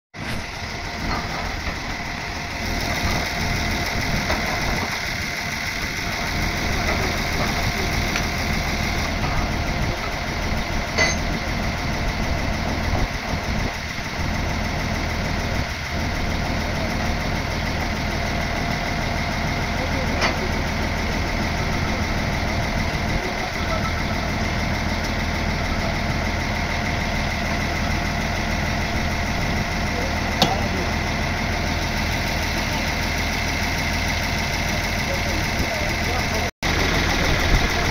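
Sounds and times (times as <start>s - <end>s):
engine droning with high whine: 0.2s - 37.9s.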